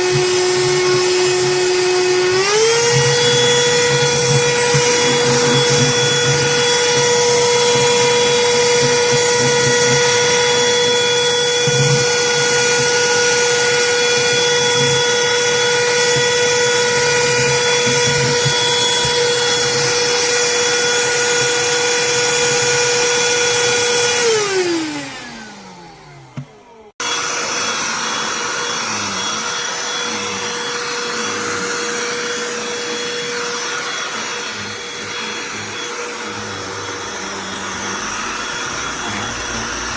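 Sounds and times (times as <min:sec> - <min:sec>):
handheld vacuum whining: 0:00.0 - 0:39.9.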